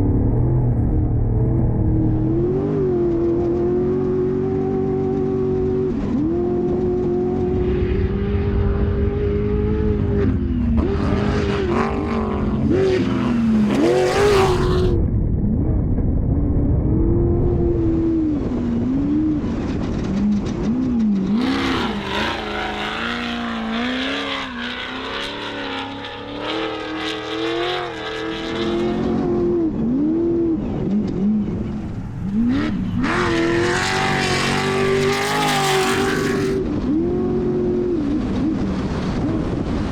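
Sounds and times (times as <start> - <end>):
race car engine revving: 0.4 - 15.1, 17.1 - 39.9.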